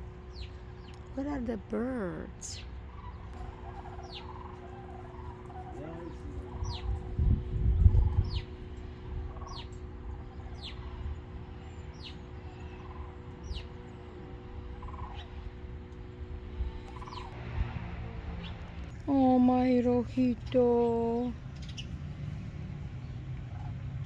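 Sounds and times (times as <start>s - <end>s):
birds calling downward slide: 0.0s - 24.0s
loud low rumble: 0.0s - 24.0s
steady low hum: 0.0s - 24.0s.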